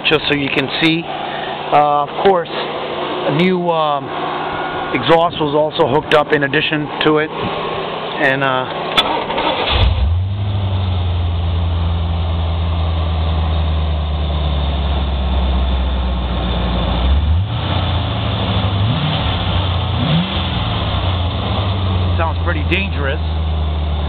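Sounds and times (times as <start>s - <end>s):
car engine starting and idling: 0.0s - 24.0s
engine revving: 0.7s - 13.0s, 14.0s - 24.0s.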